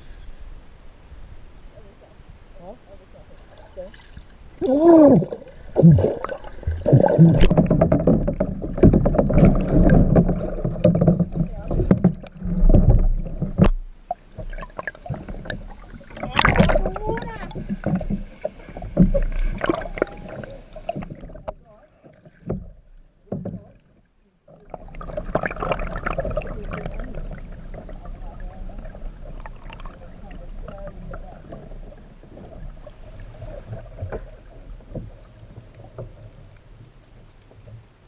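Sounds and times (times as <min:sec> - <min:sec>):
paddle strokes splashing water: 0:03.2 - 0:38.0.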